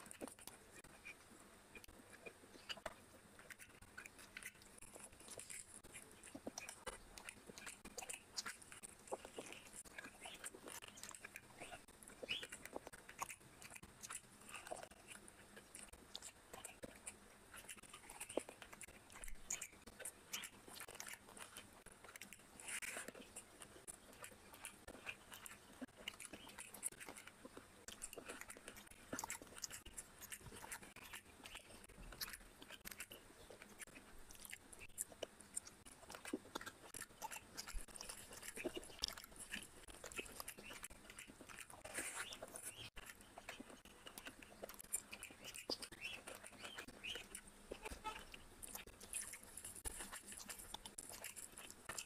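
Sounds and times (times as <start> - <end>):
man chewing food: 0.0 - 52.0.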